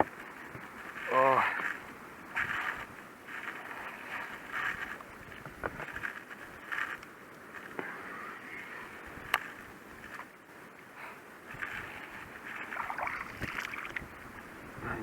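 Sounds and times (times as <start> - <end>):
waves lapping against boat hull: 0.0 - 15.0.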